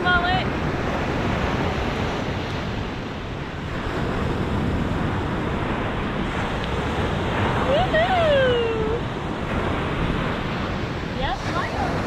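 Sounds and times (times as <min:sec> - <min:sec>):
ocean surf washing onto beach: 0:00.0 - 0:12.0
wind buffeting microphone: 0:00.0 - 0:12.0.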